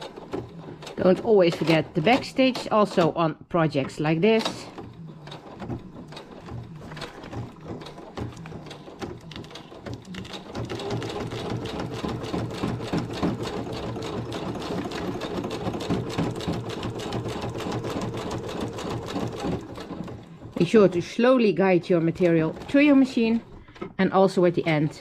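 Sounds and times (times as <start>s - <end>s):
sewing machine stitching: 0.0s - 21.2s, 21.9s - 25.0s.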